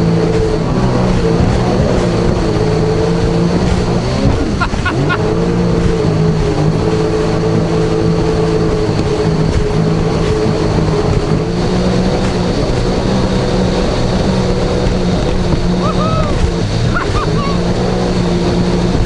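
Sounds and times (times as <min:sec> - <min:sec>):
jet ski engine droning: 0:00.0 - 0:19.0
water rushing: 0:00.0 - 0:19.0
wind: 0:00.0 - 0:19.0.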